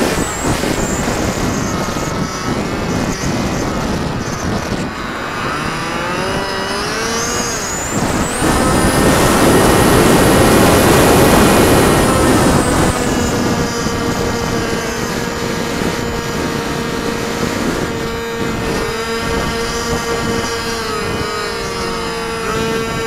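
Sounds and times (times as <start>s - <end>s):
model airplane motor droning: 0.0s - 23.0s
rushing wind noise: 0.0s - 23.0s.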